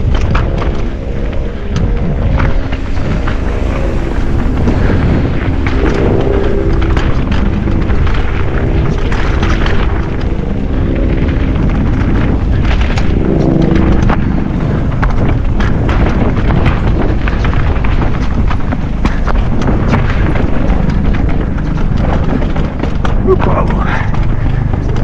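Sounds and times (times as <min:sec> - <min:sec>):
bike knocking and rattling: 0:00.0 - 0:25.0
bike tyres rumbling on ground: 0:00.0 - 0:25.0
wind buffeting microphone: 0:00.0 - 0:25.0.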